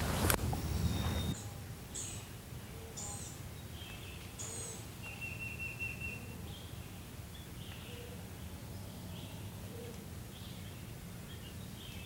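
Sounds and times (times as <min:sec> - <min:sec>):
low steady background noise: 0:00.0 - 0:12.0
wild birds calling: 0:00.0 - 0:12.0.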